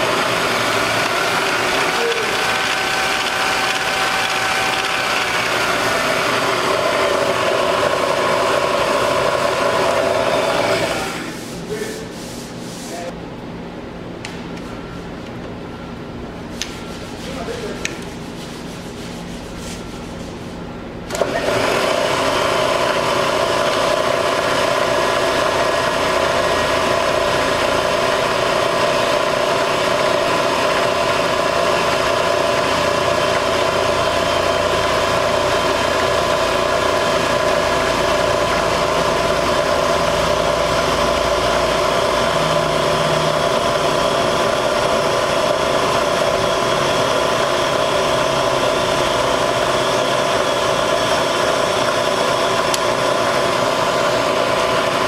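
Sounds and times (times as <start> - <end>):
milling machine motor whine: 0.0 - 11.4, 19.8 - 55.0.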